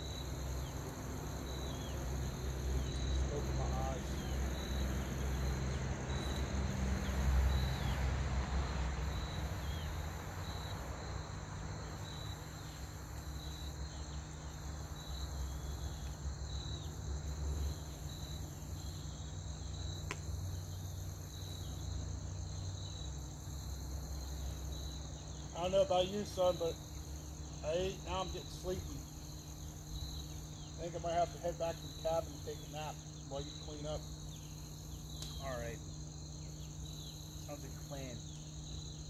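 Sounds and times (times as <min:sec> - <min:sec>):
high steady insect drone: 0:00.0 - 0:39.0
insects chirping: 0:00.0 - 0:39.0.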